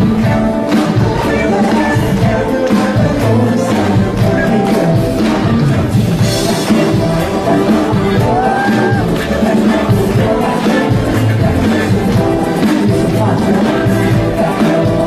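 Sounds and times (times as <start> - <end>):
drum beat: 0.0 - 15.0
live pop music: 0.0 - 15.0
person singing: 0.0 - 15.0.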